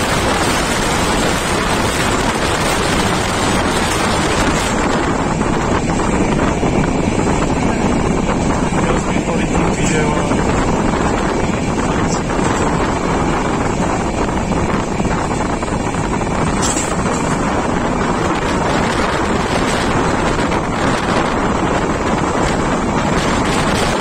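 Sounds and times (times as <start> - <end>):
train running on track: 0.0 - 24.0
wind buffeting microphone: 0.0 - 24.0
wind rushing at train window: 0.0 - 24.0.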